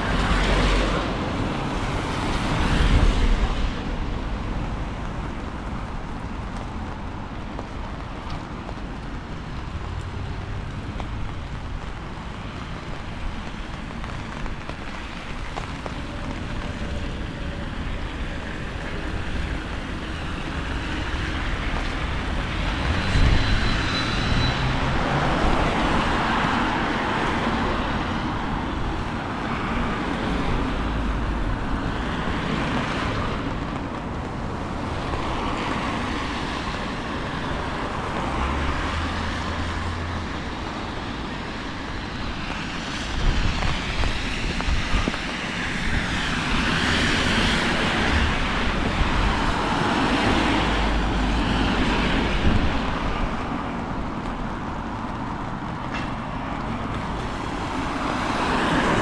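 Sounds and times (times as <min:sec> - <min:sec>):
street traffic: 0:00.0 - 0:59.0
wind: 0:00.0 - 0:59.0.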